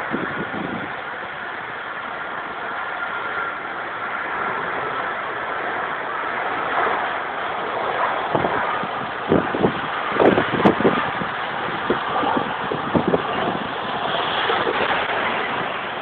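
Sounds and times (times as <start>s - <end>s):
faint high whine: 0.0s - 16.0s
jet engines running: 0.0s - 16.0s.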